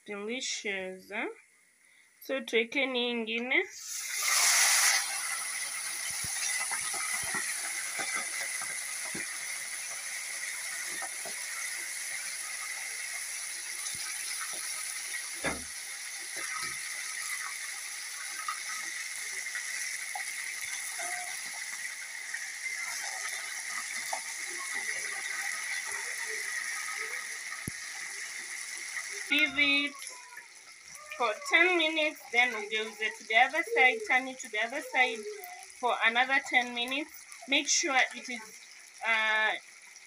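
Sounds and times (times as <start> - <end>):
fish deep-frying in oil: 3.9 - 40.0.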